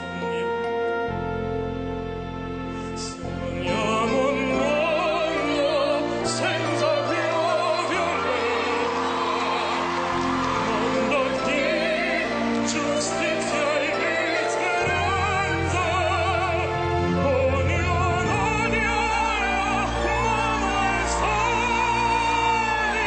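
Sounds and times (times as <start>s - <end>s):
operatic singing: 0.0s - 23.0s
orchestral backing track: 0.0s - 23.0s.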